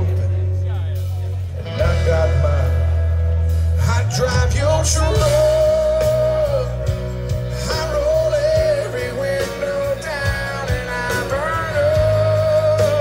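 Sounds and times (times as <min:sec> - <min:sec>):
live rock band: 0:00.0 - 0:13.0
man singing: 0:00.0 - 0:13.0.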